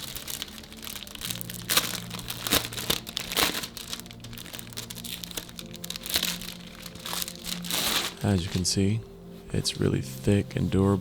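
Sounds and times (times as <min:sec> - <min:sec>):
packaging crinkling and rustling: 0:00.0 - 0:09.0.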